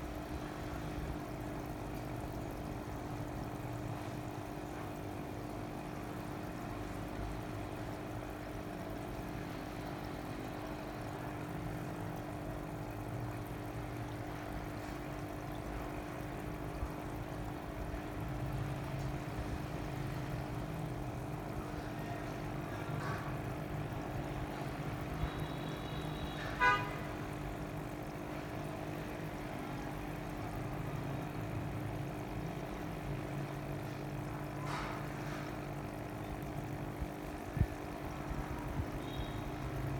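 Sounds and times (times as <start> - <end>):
mechanical hum: 0.0 - 39.9.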